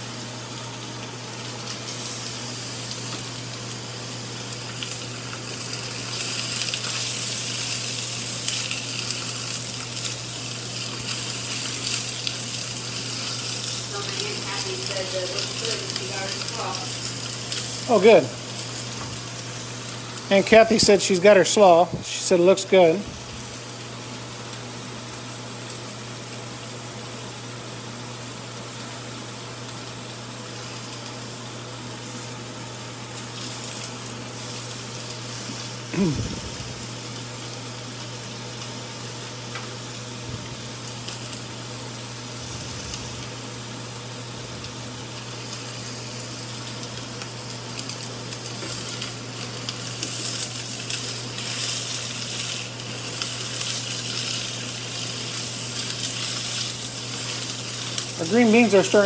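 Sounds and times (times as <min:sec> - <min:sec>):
green beans frying in skillet: 0:00.0 - 0:59.0
meat sizzling on grill pan: 0:00.0 - 0:59.0.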